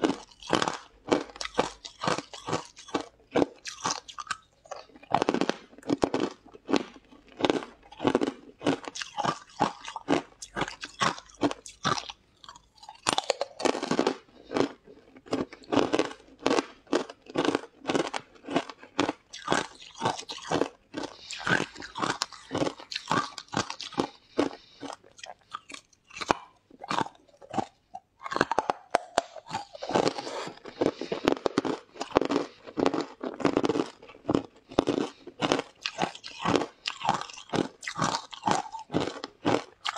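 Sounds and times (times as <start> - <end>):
crisp crunching while chewing: 0.0 - 39.9.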